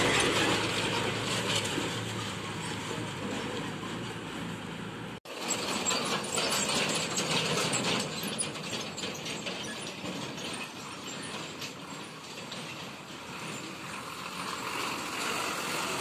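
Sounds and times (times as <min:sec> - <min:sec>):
lorry engine running: 0:00.0 - 0:16.0.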